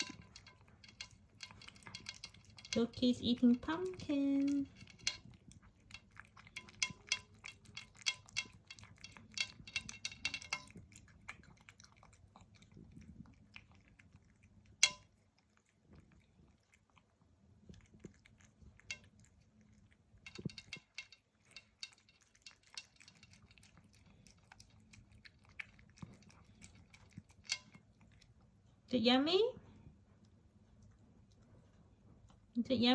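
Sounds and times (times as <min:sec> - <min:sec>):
cat chewing and licking food: 0:00.0 - 0:32.8.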